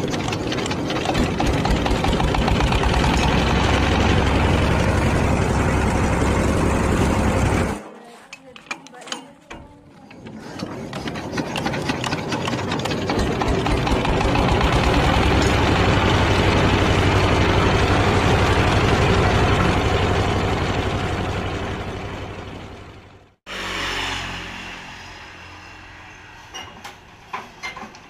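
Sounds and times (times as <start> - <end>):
diesel engine running: 0.0 - 7.9, 10.6 - 26.6.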